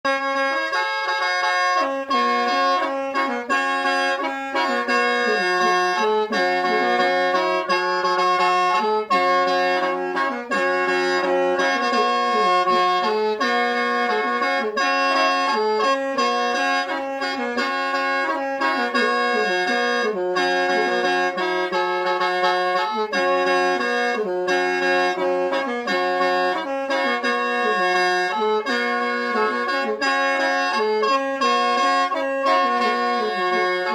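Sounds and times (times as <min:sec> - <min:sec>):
mouth organ playing chords: 0:00.1 - 0:33.9.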